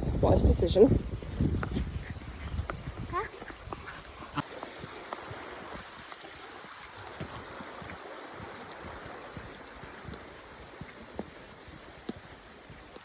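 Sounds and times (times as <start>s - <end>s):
footsteps on woodland path: 0.0s - 13.0s
stream flowing over stones: 0.0s - 13.0s.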